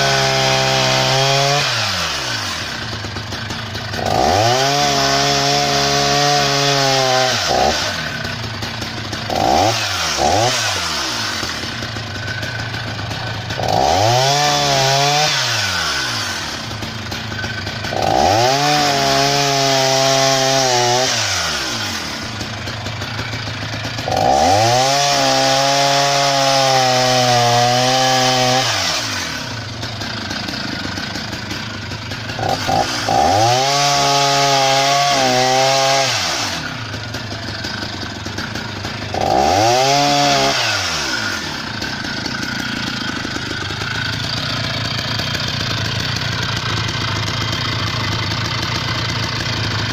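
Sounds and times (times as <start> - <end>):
chainsaw revving and idling: 0.0 - 49.9.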